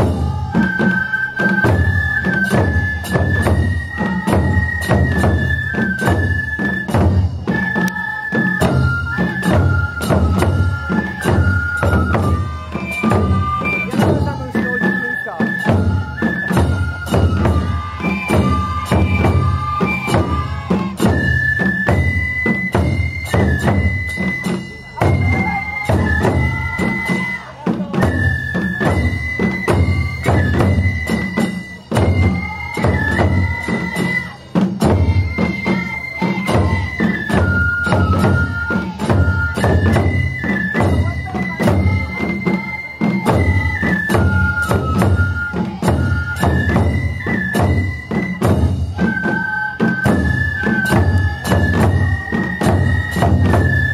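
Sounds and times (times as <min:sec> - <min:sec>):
bamboo flutes playing melody: 0:00.0 - 0:53.9
drums beaten in steady rhythm: 0:00.0 - 0:53.9.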